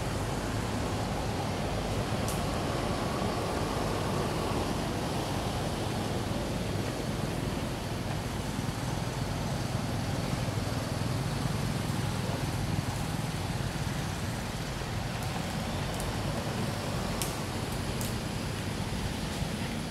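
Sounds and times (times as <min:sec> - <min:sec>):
low rumbling background noise: 0:00.0 - 0:19.9.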